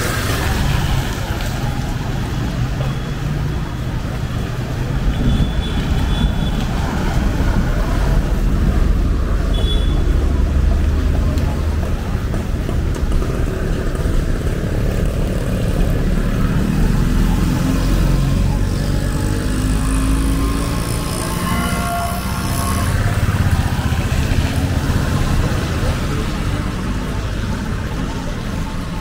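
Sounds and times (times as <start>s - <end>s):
cars and motorbikes passing: 0.0s - 29.0s.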